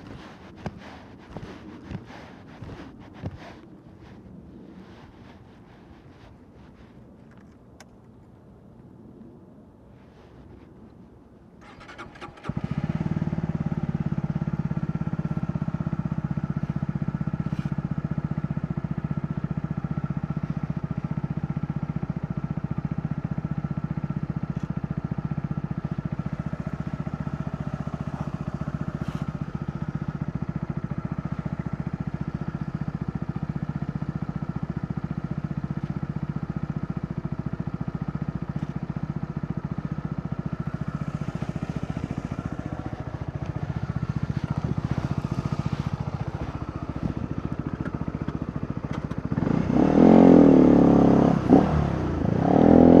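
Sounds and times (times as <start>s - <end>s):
motorcycle engine idling: 0.0s - 4.2s, 11.6s - 53.0s.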